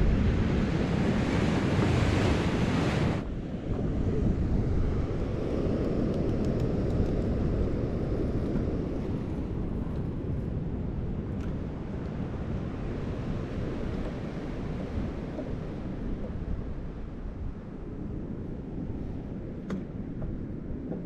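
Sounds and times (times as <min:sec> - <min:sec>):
ocean surf: 0:00.0 - 0:21.0
wind rumbling on microphone: 0:00.0 - 0:21.0.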